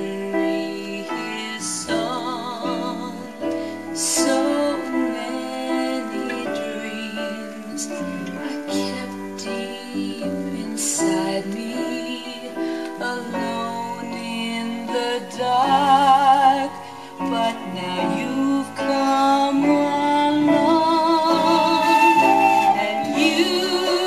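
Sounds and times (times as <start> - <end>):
instrumental backing music: 0.0 - 24.0
person singing with vibrato: 0.0 - 24.0.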